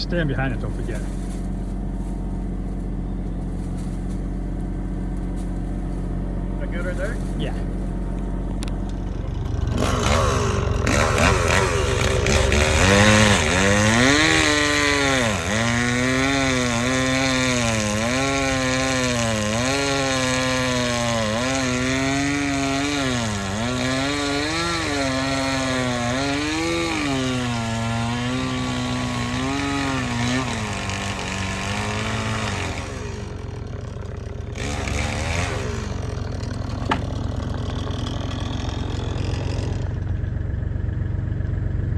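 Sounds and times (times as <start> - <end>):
chainsaw cutting log: 0.0 - 40.4
excavator engine running: 0.0 - 41.9.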